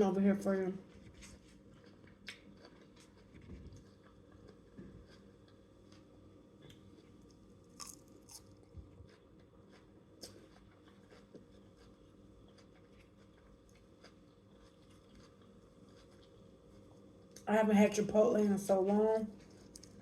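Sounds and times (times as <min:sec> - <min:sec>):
faint chewing and crunching: 0:00.8 - 0:17.5, 0:19.3 - 0:20.0.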